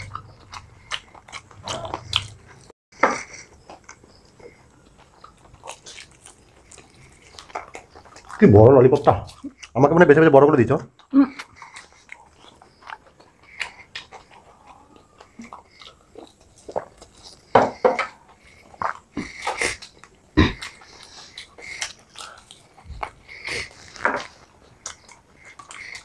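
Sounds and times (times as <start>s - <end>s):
people chewing fried chicken: 0.0s - 26.0s.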